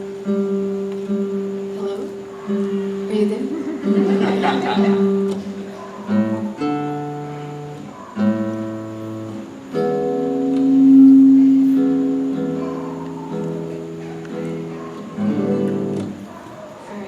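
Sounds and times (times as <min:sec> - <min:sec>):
guitar sustained chords: 0:00.0 - 0:16.3.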